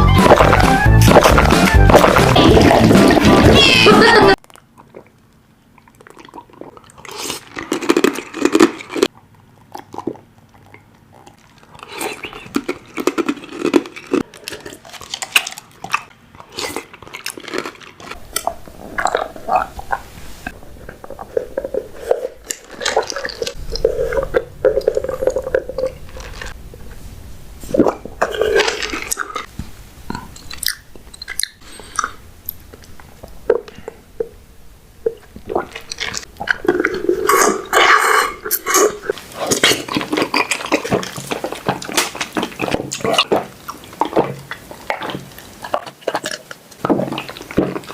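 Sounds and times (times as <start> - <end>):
chewing tapioca pearls: 0.0 - 3.6, 4.3 - 27.0, 27.7 - 29.5, 30.1 - 34.4, 35.0 - 47.9.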